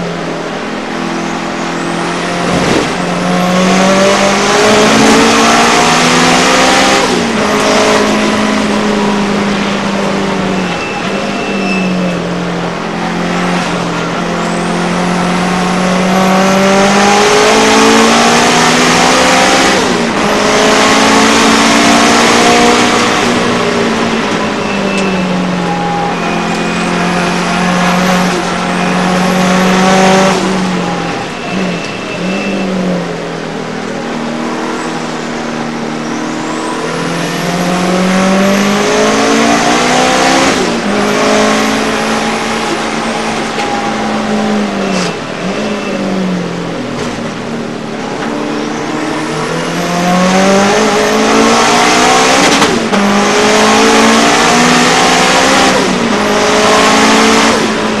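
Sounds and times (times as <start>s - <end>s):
racing car engine revving: 0.0s - 58.0s
road and wind noise: 0.0s - 58.0s.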